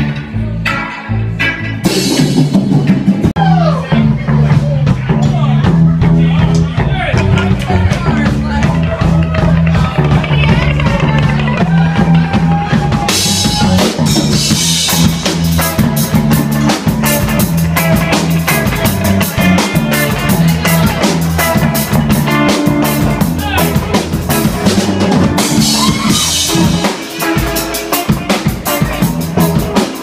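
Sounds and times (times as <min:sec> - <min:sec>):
live reggae band: 0:00.0 - 0:30.0.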